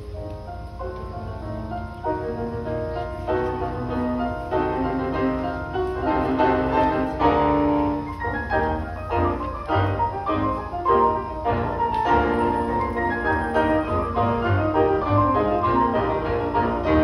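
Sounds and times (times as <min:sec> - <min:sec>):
grand pianos playing together: 0:00.0 - 0:17.0.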